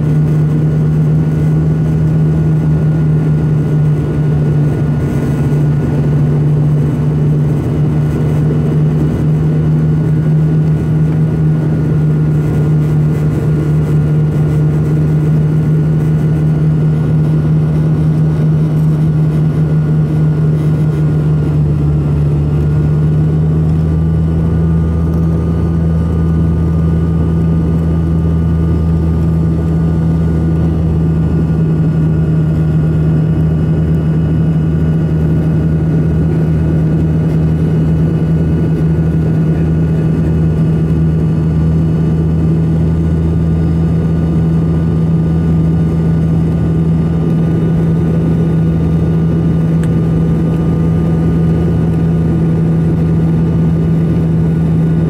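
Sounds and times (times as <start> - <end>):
turboprop engines droning in cabin: 0.0 - 55.0.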